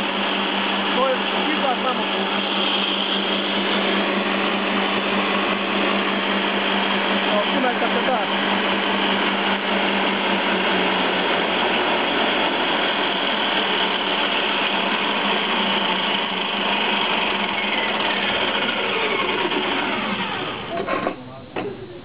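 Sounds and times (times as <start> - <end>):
electric motor whirring: 0.0 - 20.8.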